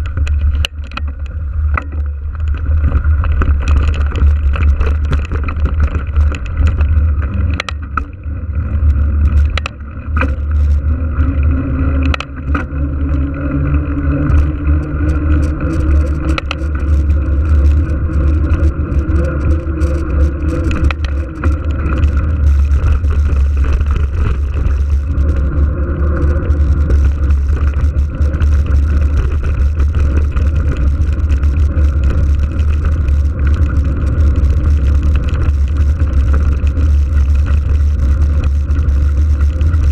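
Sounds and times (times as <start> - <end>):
bike clicks and rattles: 0.0 - 39.9.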